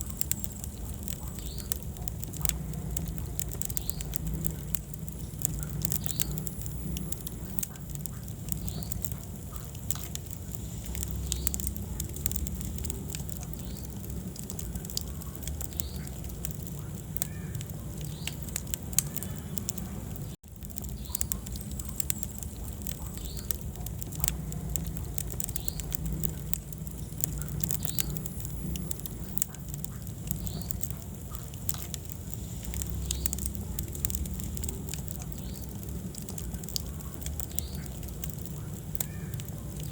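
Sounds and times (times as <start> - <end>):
fire popping: 0.0 - 39.9
fireplace fire crackling: 0.0 - 39.9
low rumble of flames: 0.0 - 39.9.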